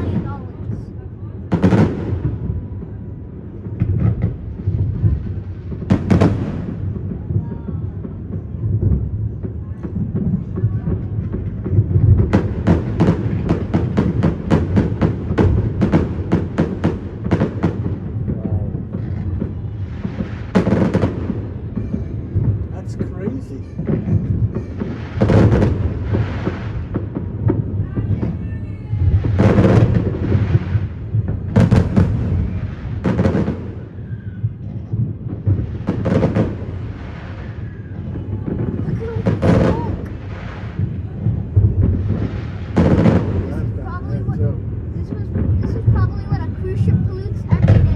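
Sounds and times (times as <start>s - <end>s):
fireworks banging: 0.0s - 47.9s.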